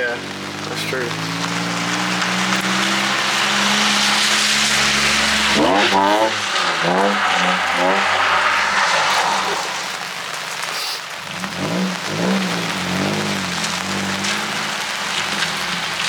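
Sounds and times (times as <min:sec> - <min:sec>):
car engine revving: 0:00.0 - 0:16.0
hiss of rain and spray: 0:00.0 - 0:16.0.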